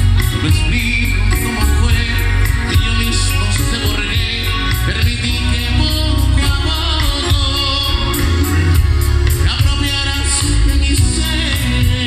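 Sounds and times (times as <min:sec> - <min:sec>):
live band music amplified: 0:00.0 - 0:12.0.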